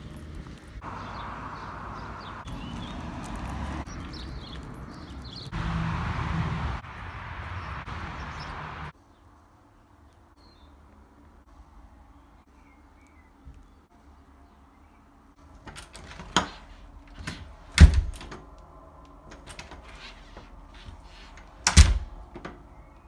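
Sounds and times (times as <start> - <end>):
birds chirping: 0.0 - 23.0
outdoor background noise: 0.0 - 23.0.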